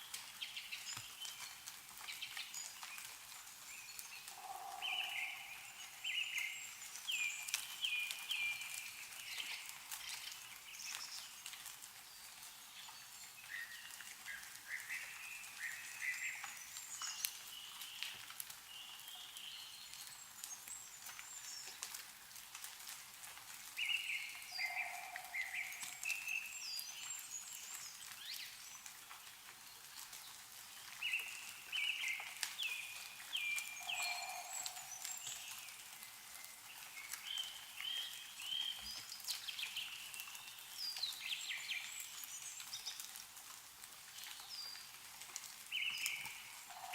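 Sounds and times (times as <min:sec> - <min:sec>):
meltwater dripping: 0:00.0 - 0:46.9
songbird singing: 0:00.1 - 0:11.4, 0:12.0 - 0:21.8, 0:23.8 - 0:28.9, 0:29.6 - 0:43.0, 0:45.7 - 0:46.9.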